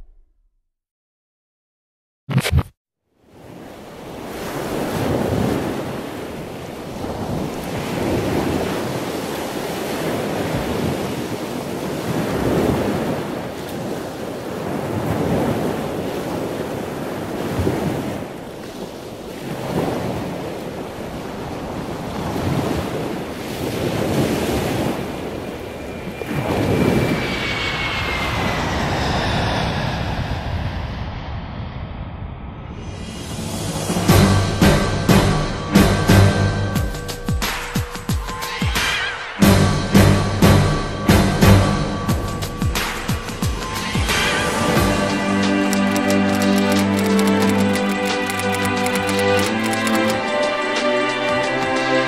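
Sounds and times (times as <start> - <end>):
ocean waves washing in: 3.2 - 52.0.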